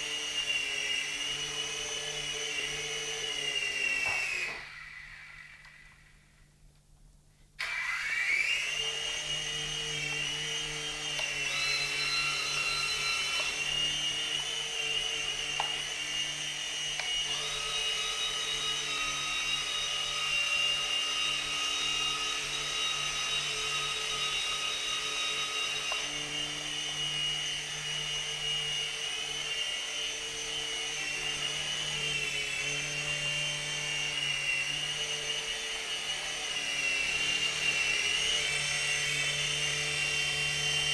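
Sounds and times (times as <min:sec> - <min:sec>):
electric motors whining: 0:00.0 - 0:06.2, 0:07.6 - 0:40.9.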